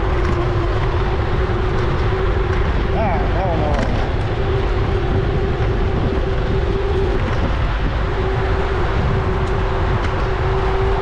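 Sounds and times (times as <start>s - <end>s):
mid-pitched whine: 0.0s - 11.0s
road noise: 0.0s - 11.0s
wind buffeting microphone: 0.0s - 11.0s.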